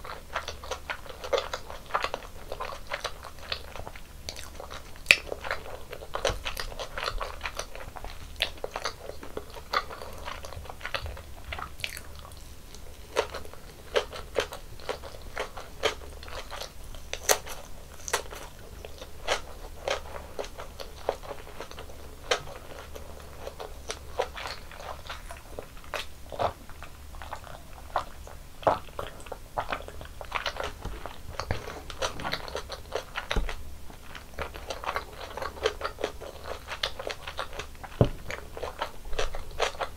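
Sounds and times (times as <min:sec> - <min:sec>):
crunchy chewing: 0:00.0 - 0:39.9
faint low hum: 0:00.0 - 0:39.9.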